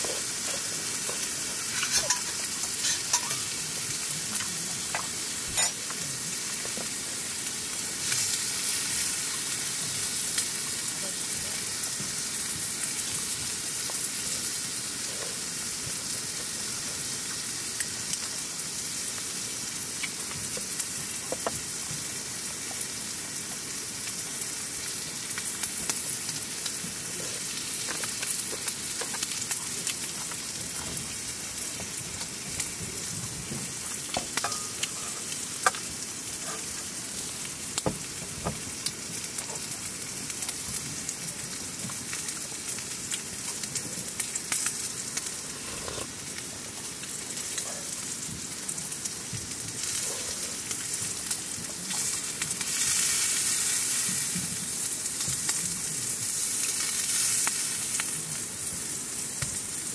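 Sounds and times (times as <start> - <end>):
food sizzling in pan: 0.0 - 59.9
oil crackles and pops: 0.0 - 59.9.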